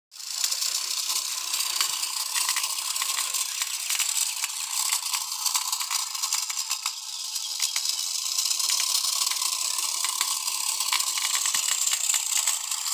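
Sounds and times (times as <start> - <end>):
toy boat motor whirring: 0.1 - 12.9
plastic parts rattling clicks: 0.3 - 12.9.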